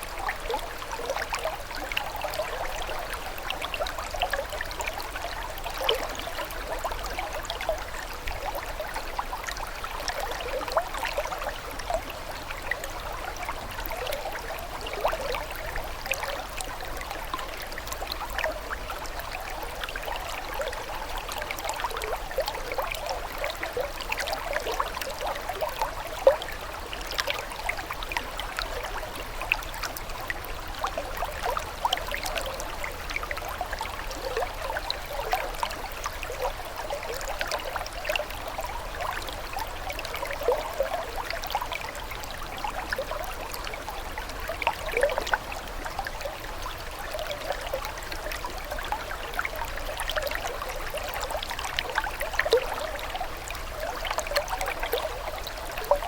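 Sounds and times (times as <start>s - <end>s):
water trickling and gurgling: 0.0s - 56.0s.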